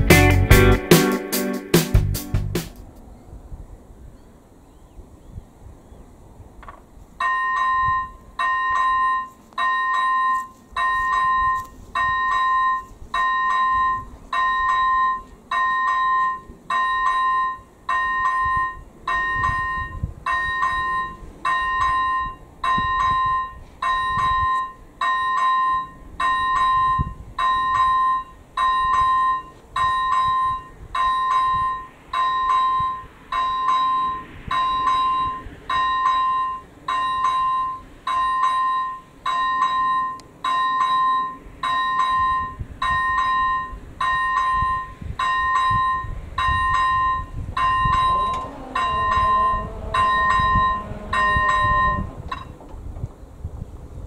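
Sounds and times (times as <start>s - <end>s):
level crossing bell dinging: 7.2s - 52.4s.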